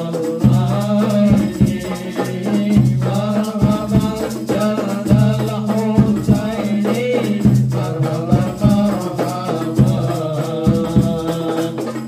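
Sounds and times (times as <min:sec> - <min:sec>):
hand frame drums beating: 0:00.0 - 0:12.0
man singing into a microphone: 0:00.0 - 0:12.0
tambourines jingling: 0:00.0 - 0:12.0.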